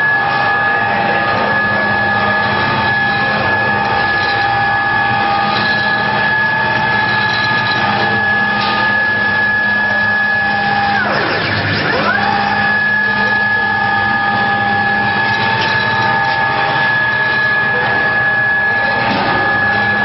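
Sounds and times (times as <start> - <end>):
cnc router whining: 0.0 - 20.0.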